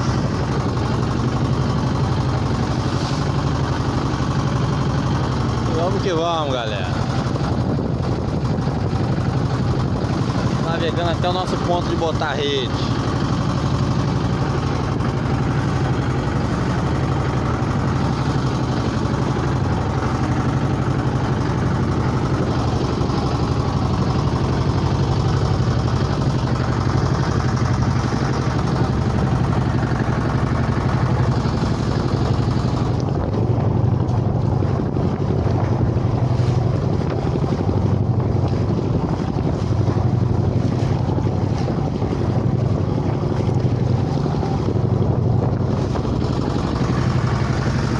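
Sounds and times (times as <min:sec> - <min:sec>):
boat motor running: 0:00.0 - 0:47.9
water noise: 0:00.0 - 0:47.9
wind: 0:00.0 - 0:47.9.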